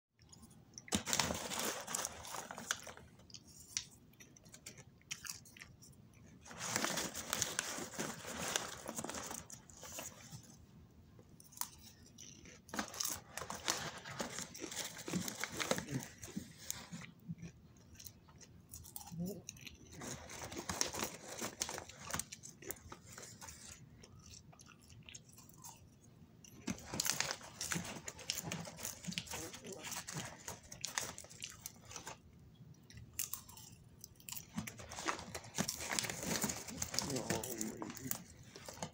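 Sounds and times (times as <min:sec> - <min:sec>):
crunchy popcorn chewing: 0:00.2 - 0:10.6, 0:11.2 - 0:38.9.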